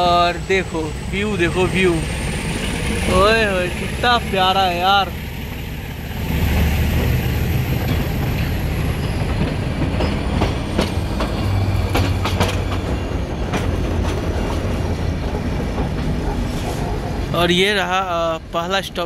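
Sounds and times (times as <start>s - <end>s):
train coach rumbling: 0.0s - 19.0s
wheels clacking over rail joints: 0.0s - 19.0s.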